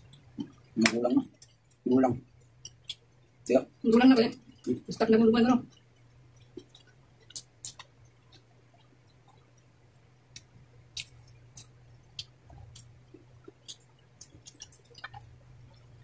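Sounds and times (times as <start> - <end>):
mouth clicks and smacks: 0.0 - 3.4, 5.7 - 9.7, 10.3 - 16.0
people chewing: 0.0 - 5.0, 5.6 - 16.0.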